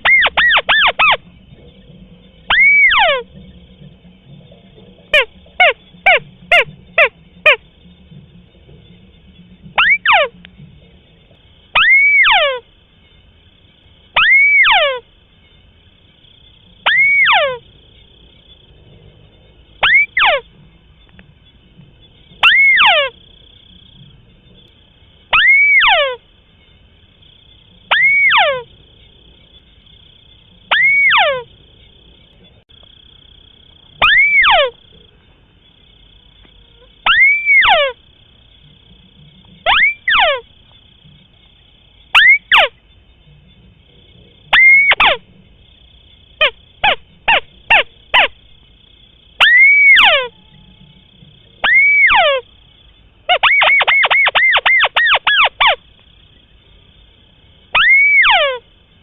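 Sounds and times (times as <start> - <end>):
bird calling: 0.0 - 13.2, 14.1 - 15.2, 16.4 - 18.0, 19.7 - 26.8, 27.4 - 28.8, 29.5 - 35.3, 36.0 - 45.4, 46.4 - 56.4, 57.7 - 58.8
faint high whine: 0.0 - 59.0.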